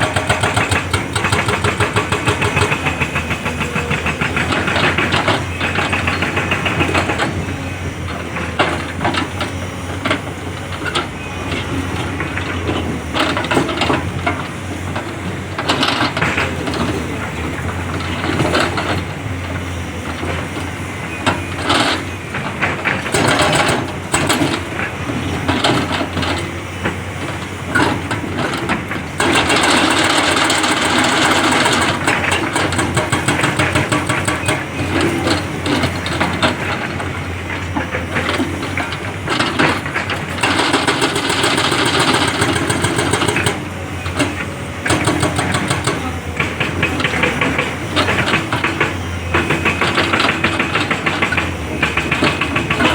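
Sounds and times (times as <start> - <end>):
excavator diesel engine: 0.0 - 52.9.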